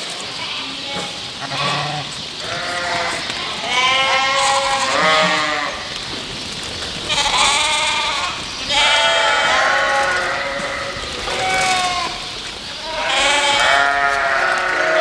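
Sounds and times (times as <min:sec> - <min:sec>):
sheep bleating: 0:00.4 - 0:06.0, 0:07.1 - 0:15.0.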